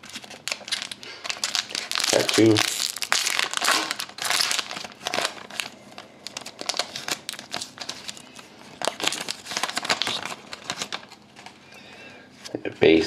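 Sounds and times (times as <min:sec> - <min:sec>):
foil wrapper tearing and crinkling: 0:00.0 - 0:11.2.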